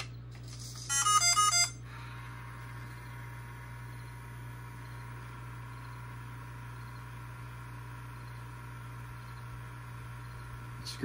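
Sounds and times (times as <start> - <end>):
low electrical hum: 0.0 - 11.0
faint high whine: 0.8 - 11.0.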